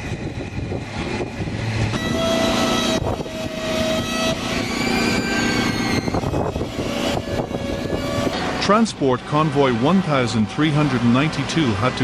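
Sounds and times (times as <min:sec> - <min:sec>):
heavy truck running: 0:00.0 - 0:12.0.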